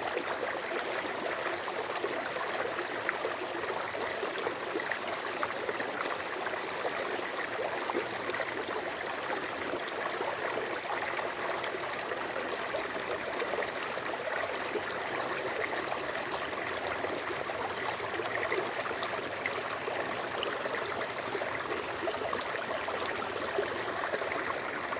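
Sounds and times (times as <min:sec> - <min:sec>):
stream water flowing: 0:00.0 - 0:24.9.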